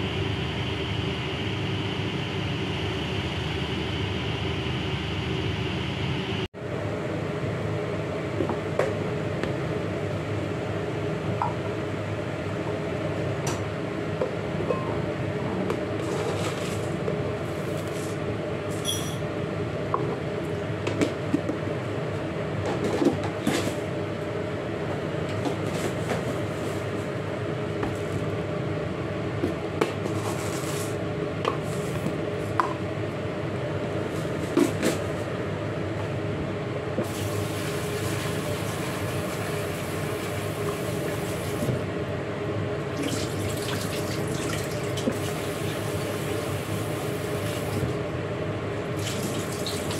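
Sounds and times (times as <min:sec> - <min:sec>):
steady background hum: 0:00.0 - 0:49.9.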